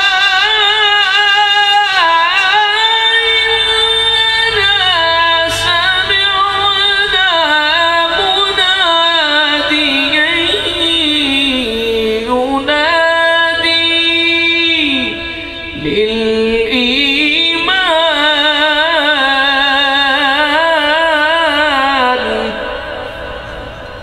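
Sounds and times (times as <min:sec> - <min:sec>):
man chanting melodically: 0:00.0 - 0:24.0.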